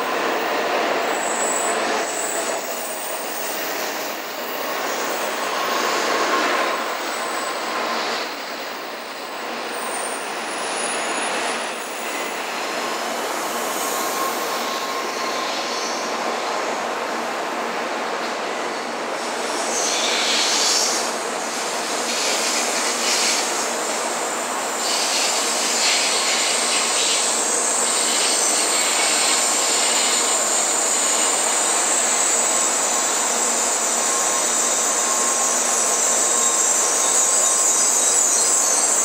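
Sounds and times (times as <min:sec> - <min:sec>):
train rolling into station: 0:00.0 - 0:39.0.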